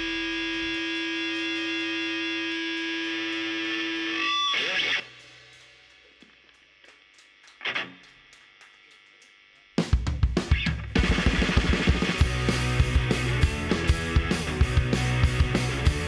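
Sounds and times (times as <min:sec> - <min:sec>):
distorted electric guitar note: 0:00.0 - 0:16.0.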